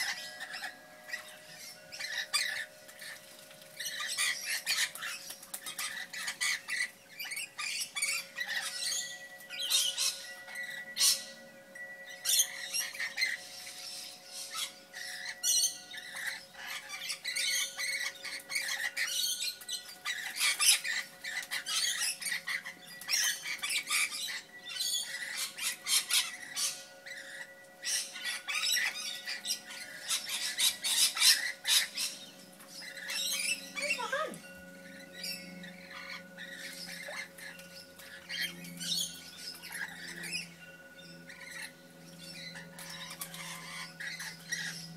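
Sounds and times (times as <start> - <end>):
lorikeets squawking and screeching: 0.0 - 44.9.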